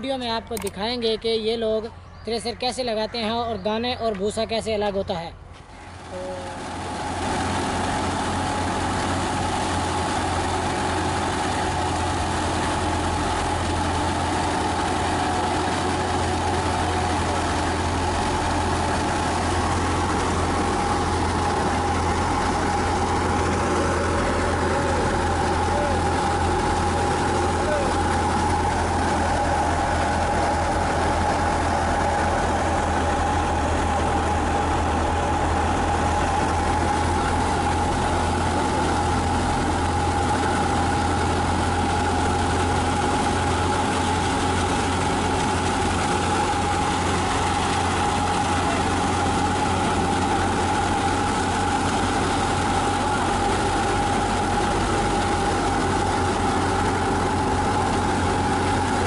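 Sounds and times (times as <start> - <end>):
wheat thresher running: 5.6 - 59.0.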